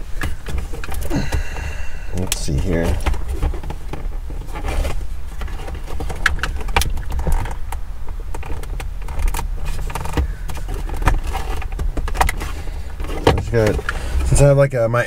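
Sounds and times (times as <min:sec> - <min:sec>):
car trim clicking and rattling: 0:00.0 - 0:14.4
steady low rumble: 0:00.0 - 0:15.0.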